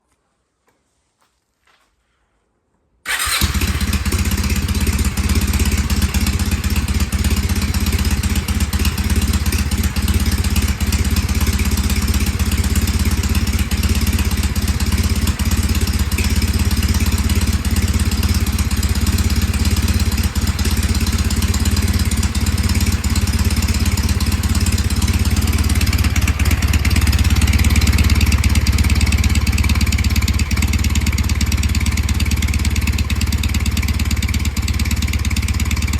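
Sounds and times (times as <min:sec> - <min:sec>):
motorcycle engine idling: 0:03.1 - 0:35.9.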